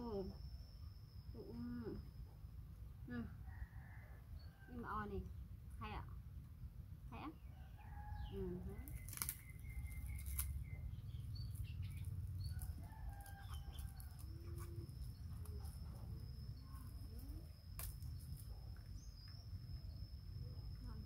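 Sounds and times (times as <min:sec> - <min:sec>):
high-pitched insect whine: 0:00.0 - 0:05.2, 0:07.6 - 0:21.0.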